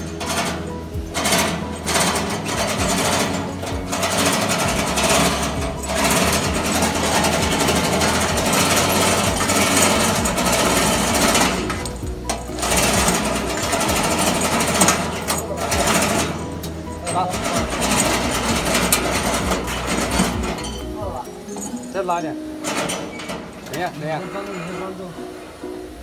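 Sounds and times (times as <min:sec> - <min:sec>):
factory machinery rattling: 0:00.0 - 0:25.8.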